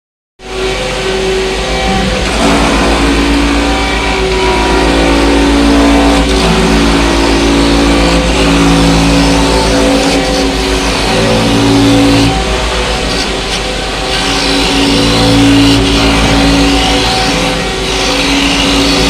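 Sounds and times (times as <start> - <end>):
lathe motors whining: 0.4 - 19.0
pulsing low hum: 0.4 - 19.0.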